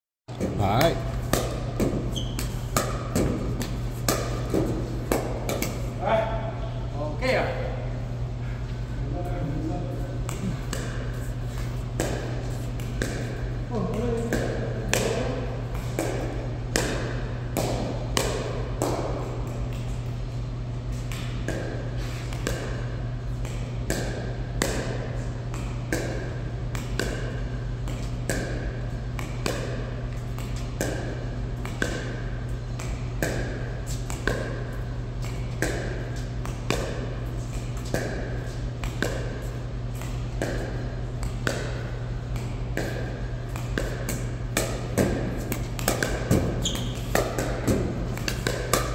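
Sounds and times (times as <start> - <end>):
paddles hitting plastic ball: 0.3 - 5.9, 10.2 - 20.1, 21.0 - 48.9
steady low hum: 0.3 - 48.9.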